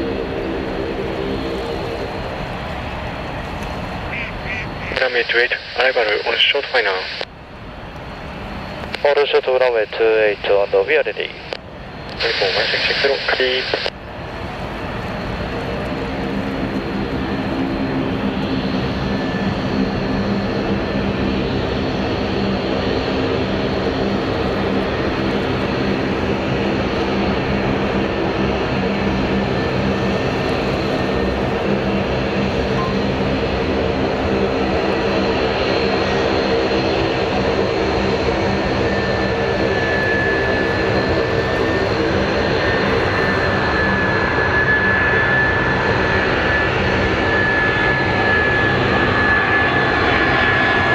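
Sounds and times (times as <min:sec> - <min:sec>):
high fan whine: 0:00.0 - 0:50.9
jet engine hum: 0:00.0 - 0:50.9.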